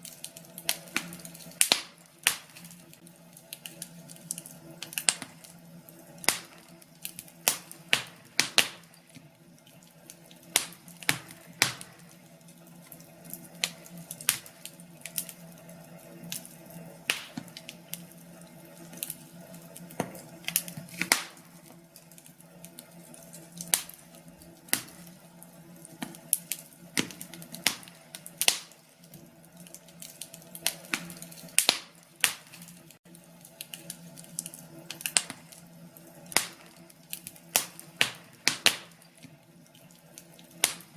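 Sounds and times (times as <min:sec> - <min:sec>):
sharp pops from burning logs: 0:00.0 - 0:40.9
steady low hum: 0:00.0 - 0:40.9
wood fire crackling: 0:00.0 - 0:40.9.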